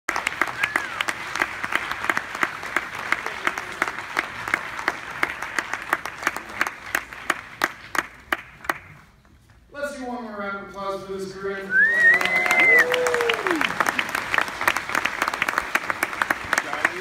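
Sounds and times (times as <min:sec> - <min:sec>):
audience applauding: 0:00.1 - 0:09.1, 0:11.7 - 0:17.0.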